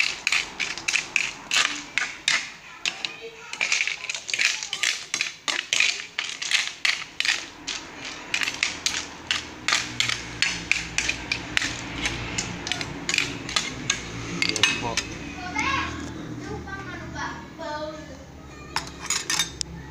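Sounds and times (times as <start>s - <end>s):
utensil scraping a wok: 0.0s - 16.2s.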